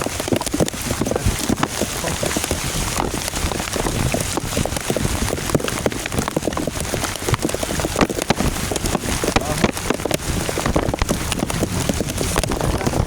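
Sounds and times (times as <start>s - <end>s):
heavy rain pelting down: 0.0s - 13.0s.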